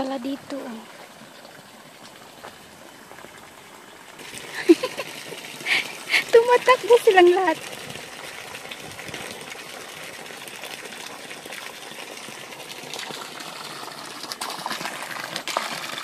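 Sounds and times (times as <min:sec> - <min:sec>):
water pouring into pond: 0:00.0 - 0:16.0.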